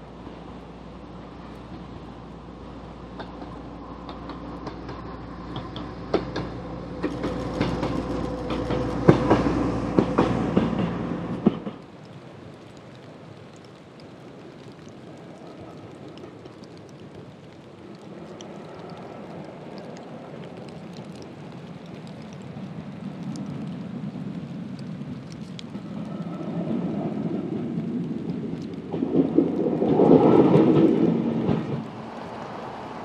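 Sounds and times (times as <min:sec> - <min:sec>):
railcar engine and wheels rumbling: 0:00.0 - 0:33.0.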